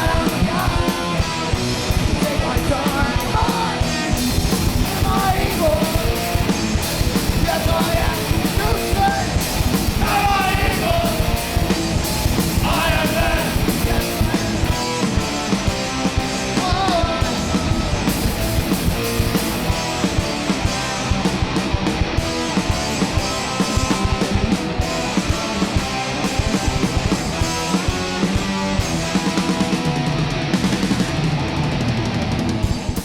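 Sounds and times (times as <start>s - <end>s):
yelled vocals: 0.0s - 32.4s
fast drumming: 0.0s - 33.0s
punk rock band playing: 0.0s - 33.0s.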